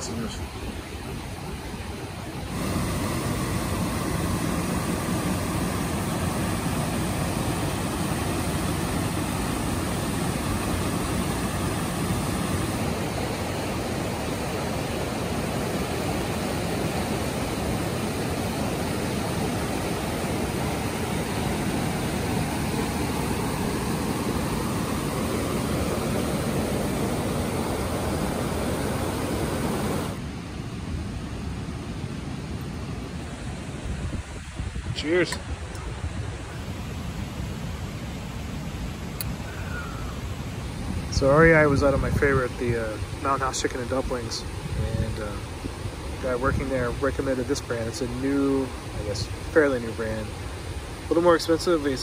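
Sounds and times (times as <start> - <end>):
water rushing over rocks: 0.0 - 31.0, 37.5 - 52.0.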